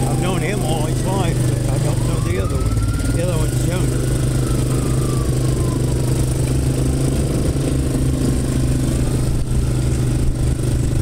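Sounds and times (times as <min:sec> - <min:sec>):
engine running with low hum: 0:00.0 - 0:11.0.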